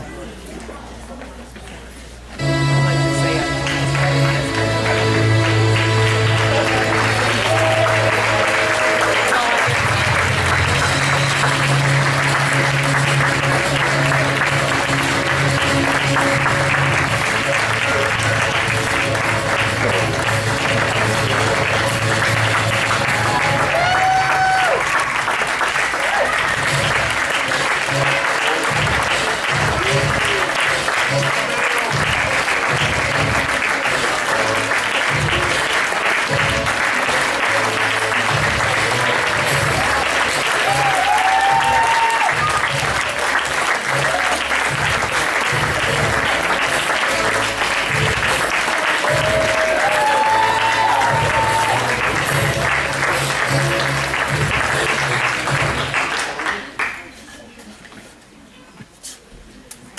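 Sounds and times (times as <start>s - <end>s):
crowd applauding: 3.2s - 57.5s.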